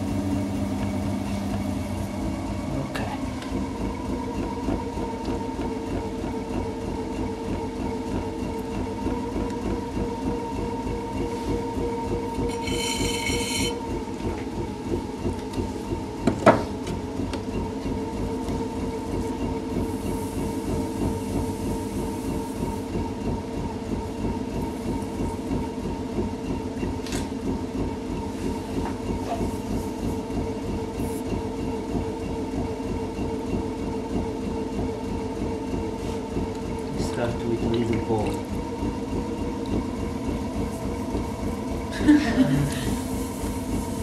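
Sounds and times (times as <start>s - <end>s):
potter's wheel humming: 0.0s - 44.0s.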